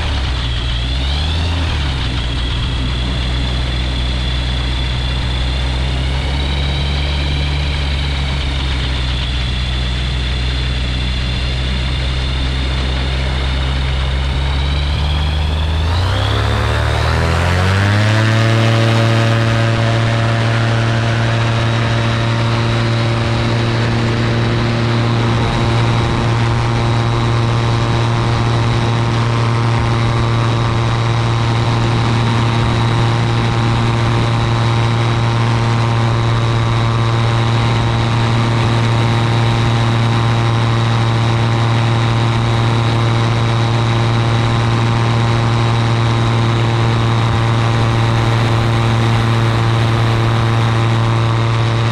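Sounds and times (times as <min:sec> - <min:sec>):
aircraft engine and propeller: 0:00.0 - 0:51.9.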